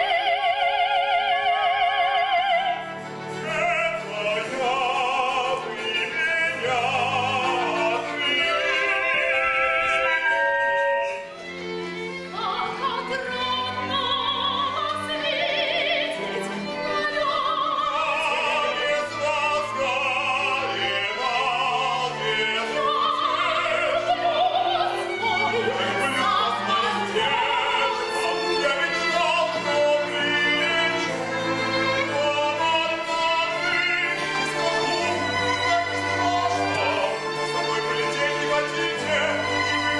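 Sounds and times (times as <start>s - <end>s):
classical accompaniment: 0.0s - 39.9s
operatic singing: 0.0s - 39.9s.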